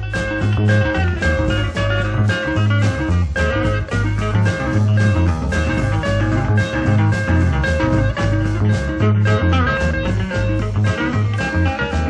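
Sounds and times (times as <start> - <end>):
rock and blues band playing: 0.0 - 12.0.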